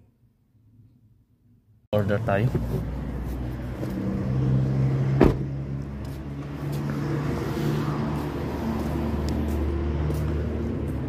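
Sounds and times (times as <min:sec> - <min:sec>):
vehicle engine humming: 0:02.0 - 0:11.0.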